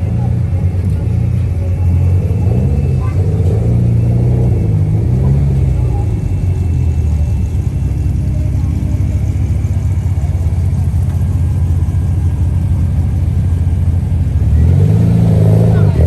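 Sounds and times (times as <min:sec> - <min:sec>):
car engine exhaust rumble: 0:00.0 - 0:16.0.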